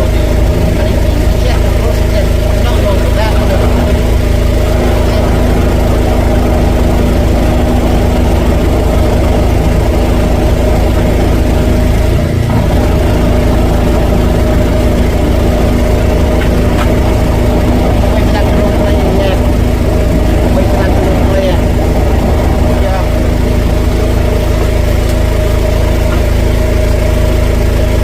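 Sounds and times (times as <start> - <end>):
drain jetter engine running: 0.0 - 28.0.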